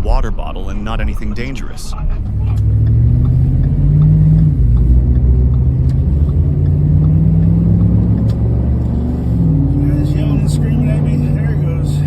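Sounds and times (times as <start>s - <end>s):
low road rumble: 0.0s - 12.0s
car engine accelerating: 1.9s - 12.0s.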